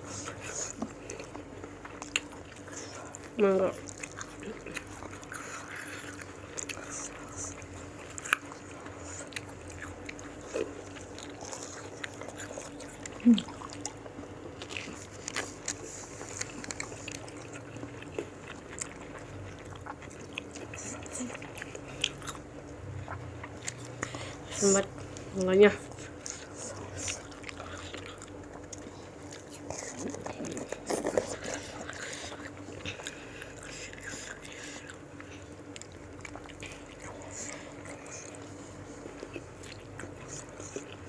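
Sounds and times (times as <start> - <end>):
crunchy fruit chewing: 0.0 - 41.0.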